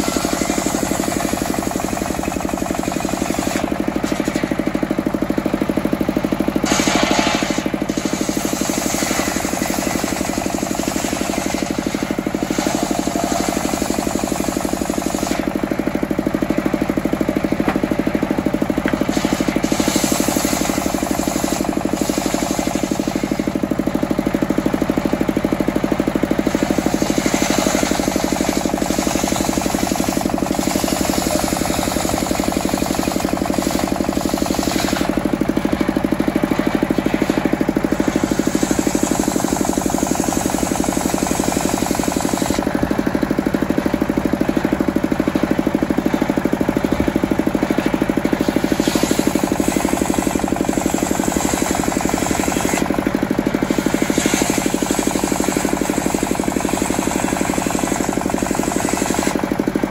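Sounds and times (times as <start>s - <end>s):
circular saw cutting wood: 0.0s - 5.0s, 6.6s - 16.7s, 17.5s - 24.1s, 26.3s - 44.6s, 46.8s - 59.5s
diesel engine knocking: 0.0s - 59.9s.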